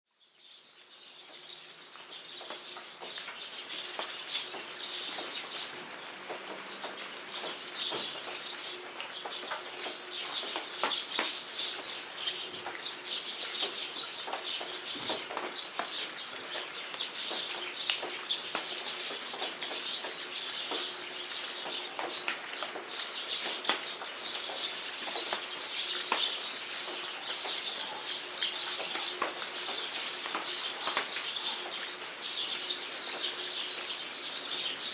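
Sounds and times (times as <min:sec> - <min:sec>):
birds chirping: 0:00.2 - 0:34.9
steady rain: 0:00.2 - 0:34.9.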